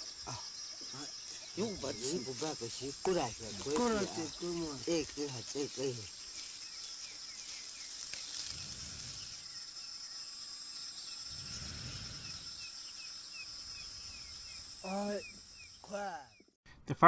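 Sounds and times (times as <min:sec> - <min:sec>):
insect chirps: 0:00.0 - 0:16.6
insects droning: 0:00.0 - 0:16.6.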